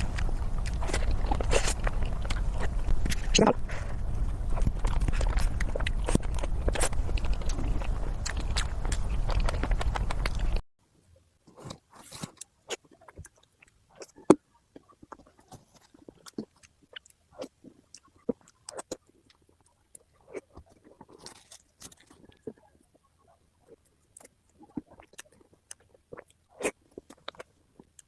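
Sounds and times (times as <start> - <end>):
person chewing cake: 0.0 - 10.6, 11.7 - 28.0.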